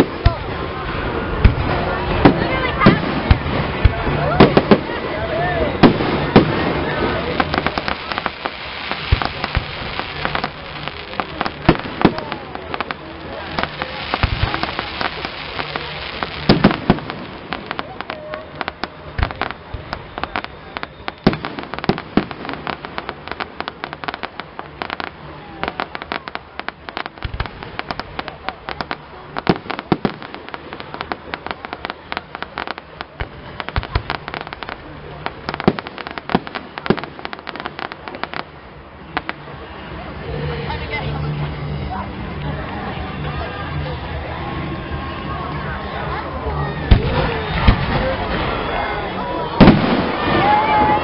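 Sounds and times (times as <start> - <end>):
fireworks heavy bangs: 0.0 - 40.9, 46.9 - 51.0
fireworks crackling and popping: 0.0 - 51.0.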